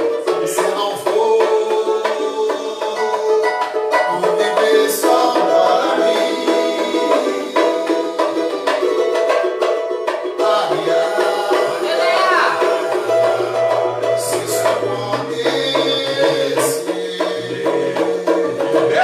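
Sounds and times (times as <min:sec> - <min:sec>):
cavaquinho strumming: 0:00.0 - 0:19.0
samba band playing: 0:00.0 - 0:19.0
steady percussion: 0:00.0 - 0:19.0.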